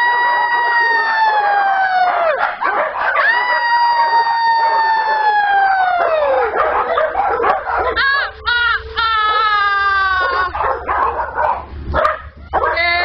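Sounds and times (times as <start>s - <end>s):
dogs' noise: 0.0s - 13.0s
long howls: 0.0s - 13.0s.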